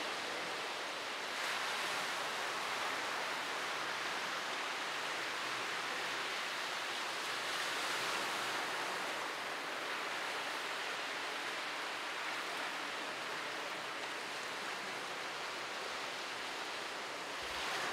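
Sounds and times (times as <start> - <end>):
sea surf breaking on shore: 0.1 - 17.9.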